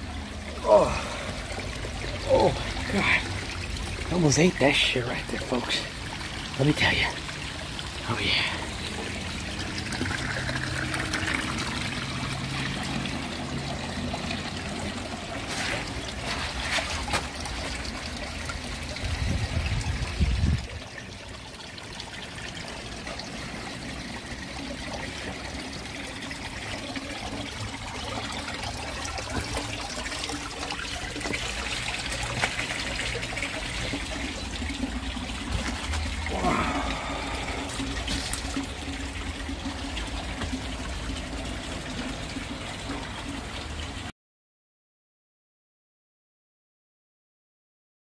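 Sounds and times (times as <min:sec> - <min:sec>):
waterfall trickling: 0:00.0 - 0:44.1.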